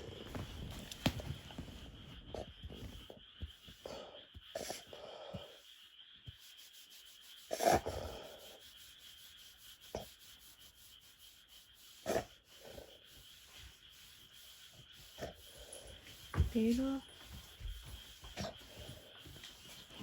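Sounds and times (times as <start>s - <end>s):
dog breathing noisily through nose: 0.0s - 5.8s, 7.5s - 8.8s, 9.7s - 20.0s.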